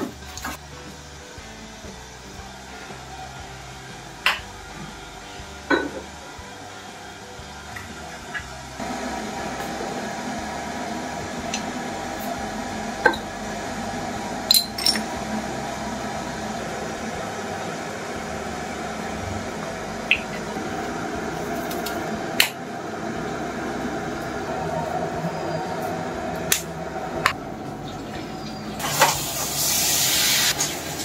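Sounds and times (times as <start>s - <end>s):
kitchen background hum: 0.0s - 31.0s.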